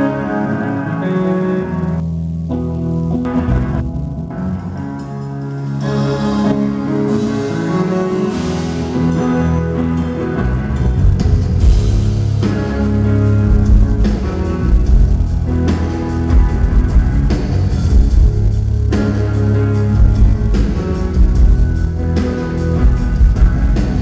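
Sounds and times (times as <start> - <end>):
bass guitar: 0.0 - 24.0
electric guitar: 0.0 - 24.0
drum kit: 1.8 - 24.0.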